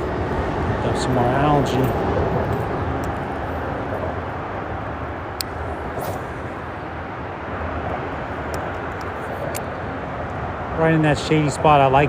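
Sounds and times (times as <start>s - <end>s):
freeway traffic rumble: 0.0s - 12.0s.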